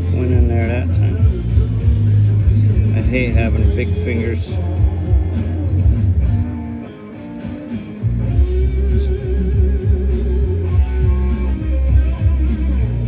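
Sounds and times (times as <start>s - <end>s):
rock music on a radio: 0.0s - 13.0s
wavering guitar note: 0.0s - 13.0s.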